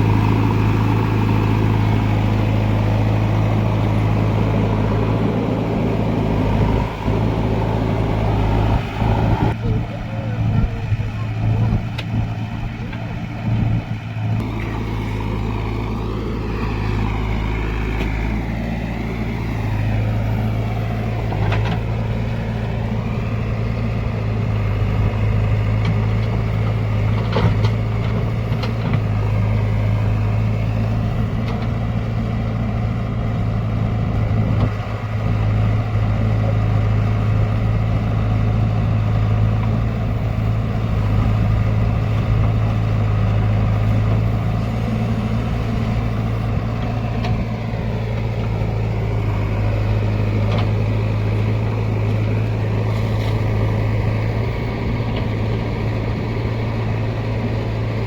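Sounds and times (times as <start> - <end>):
heavy diesel engine humming: 0.0 - 58.0.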